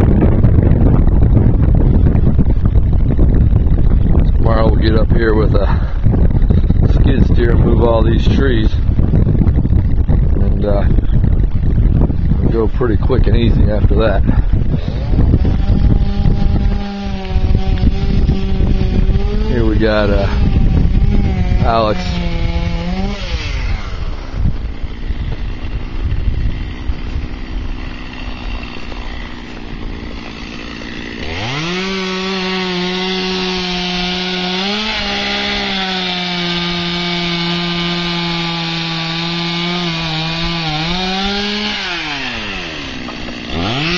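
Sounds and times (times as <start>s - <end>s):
chainsaw cutting wood: 0.2s - 43.9s.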